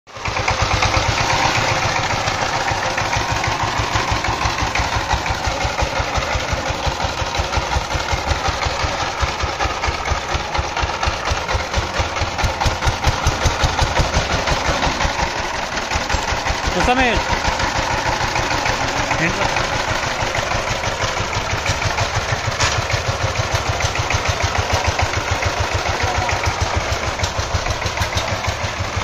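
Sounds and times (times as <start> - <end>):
diesel engine chugging: 0.1 - 29.0.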